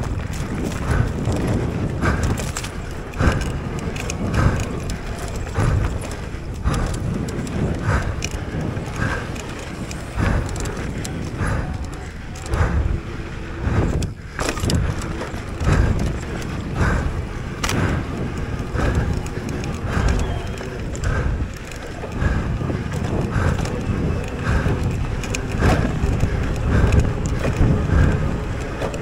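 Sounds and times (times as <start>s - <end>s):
bike chain and frame rattling: 0.0s - 29.0s
bike tyres on dirt: 0.0s - 29.0s
hard breathing: 0.0s - 29.0s
wind on microphone: 0.0s - 29.0s.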